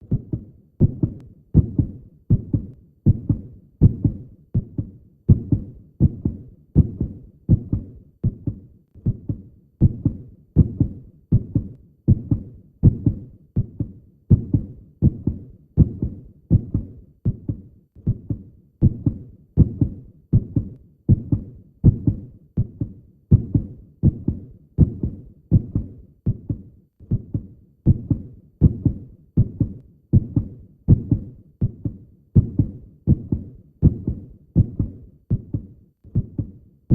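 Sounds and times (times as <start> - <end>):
heartbeat thumps: 0.0 - 36.9.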